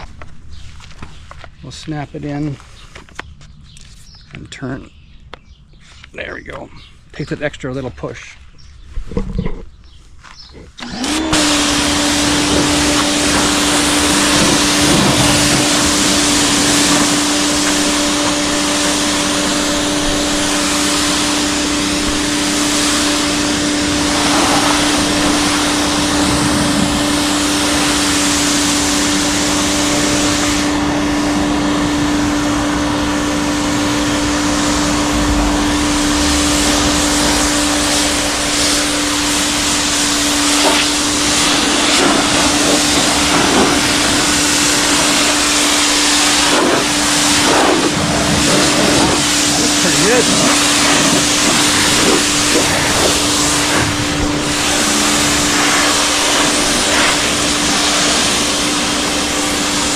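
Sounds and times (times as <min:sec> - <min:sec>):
pressure washer motor hum: 0:10.7 - 0:59.9
water jet hissing: 0:10.8 - 0:59.9.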